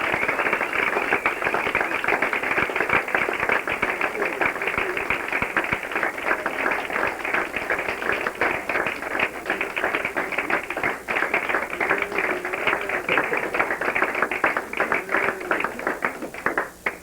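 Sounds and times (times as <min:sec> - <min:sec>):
people clapping: 0:00.0 - 0:17.0.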